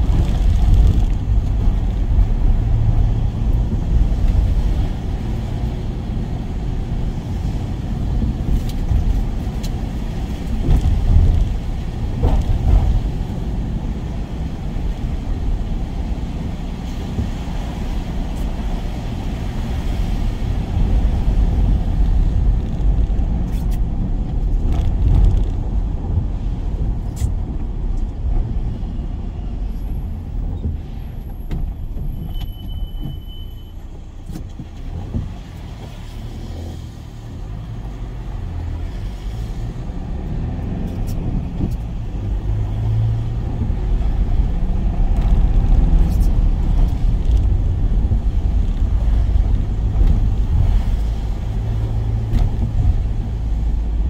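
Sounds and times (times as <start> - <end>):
van engine and road rumble: 0.0 - 54.0.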